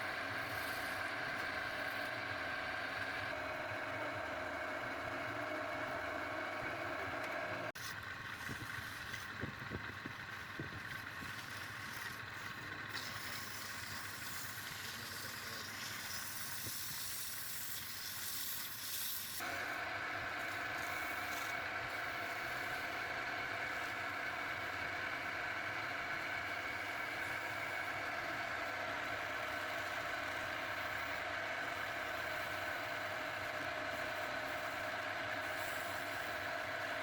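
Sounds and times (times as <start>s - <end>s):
motor hum: 0.0s - 37.0s.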